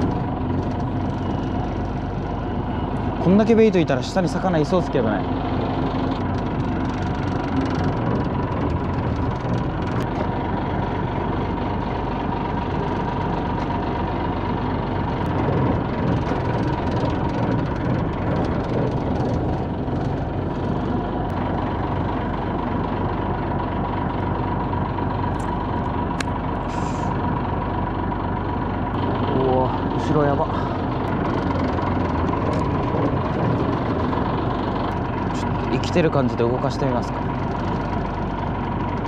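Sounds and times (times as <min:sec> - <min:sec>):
boat engine idling: 0:00.0 - 0:39.0.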